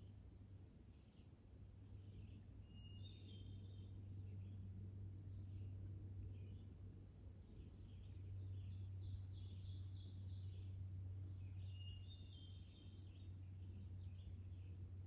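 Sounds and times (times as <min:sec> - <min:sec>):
faint songbird song: 0:00.0 - 0:15.0
steady low hum: 0:00.0 - 0:15.0.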